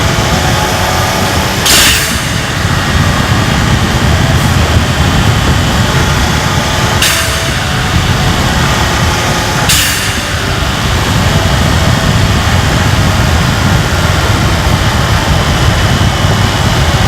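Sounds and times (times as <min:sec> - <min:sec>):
blow-off valve hissing: 0:00.0 - 0:17.0
car engine running: 0:00.0 - 0:17.0.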